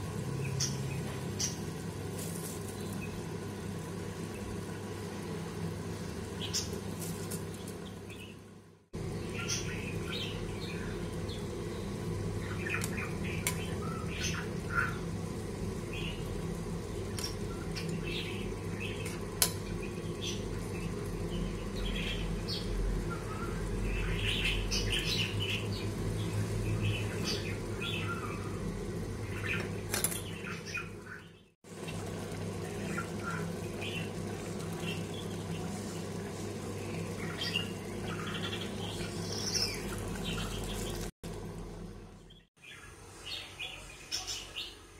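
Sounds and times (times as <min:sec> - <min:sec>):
steady low hum: 0:00.0 - 0:43.4.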